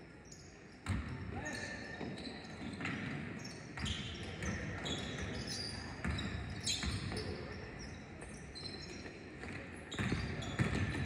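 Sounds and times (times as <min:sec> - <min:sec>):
sneaker squeaks: 0:00.2 - 0:11.0.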